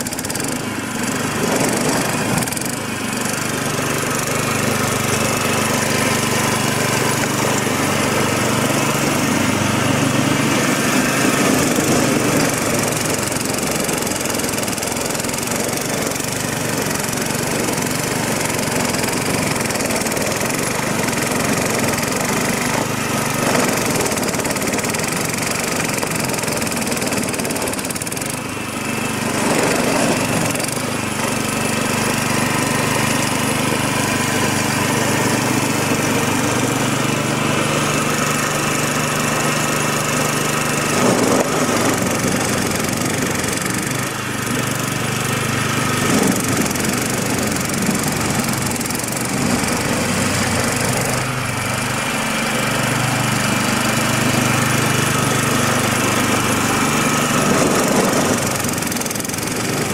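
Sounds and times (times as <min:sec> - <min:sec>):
snow blower throwing snow: 0:00.0 - 0:59.9
tiller engine running: 0:00.0 - 0:59.9.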